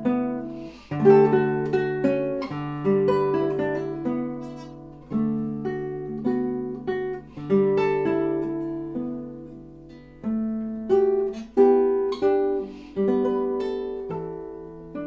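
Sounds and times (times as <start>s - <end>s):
nylon-string guitar fingerstyle: 0.0s - 15.0s.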